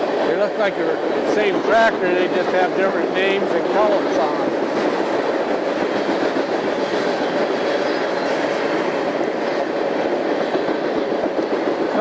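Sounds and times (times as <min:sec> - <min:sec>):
freight train wheels clattering: 0:00.0 - 0:12.0.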